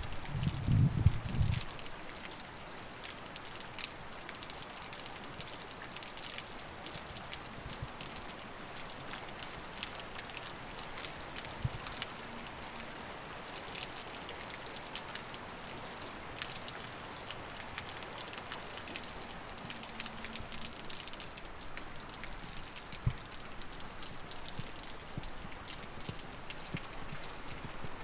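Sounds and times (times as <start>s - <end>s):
meltwater drips: 0.0s - 28.0s
wet snowfall pattering: 0.0s - 28.0s.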